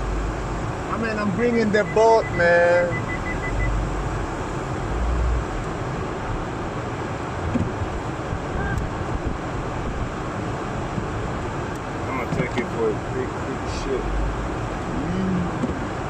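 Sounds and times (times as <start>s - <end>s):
vehicle noise: 0.0s - 16.0s.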